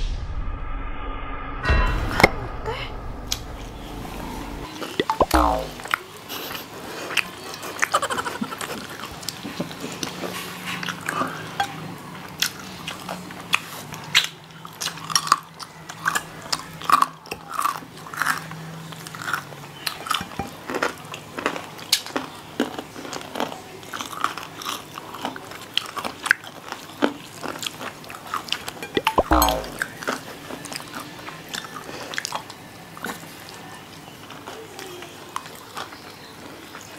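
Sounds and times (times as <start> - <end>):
chewing crispy fried chicken: 5.9 - 28.9, 29.9 - 36.9.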